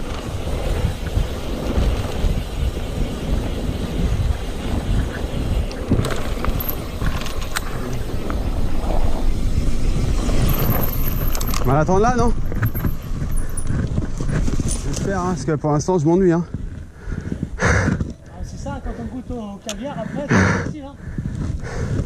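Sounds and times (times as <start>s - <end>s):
mountain bike rolling on dirt: 0.0s - 22.0s
wind buffeting microphone: 0.0s - 22.0s.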